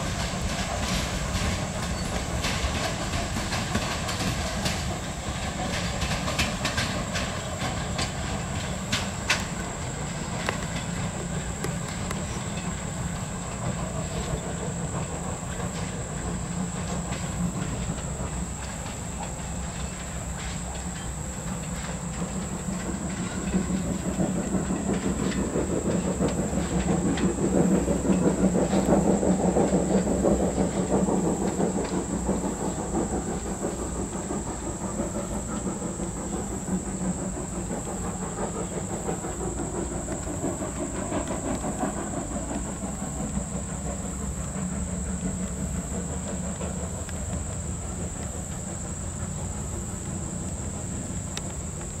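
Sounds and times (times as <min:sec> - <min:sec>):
steam train steam: 0:00.0 - 0:52.0
wheels clattering on rails: 0:00.0 - 0:52.0.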